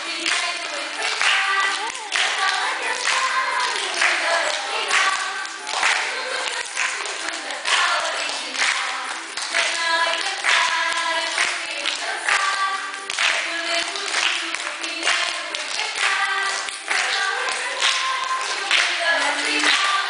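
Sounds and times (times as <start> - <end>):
children and women singing: 0.0 - 20.0
hand clapping in time: 0.0 - 20.0.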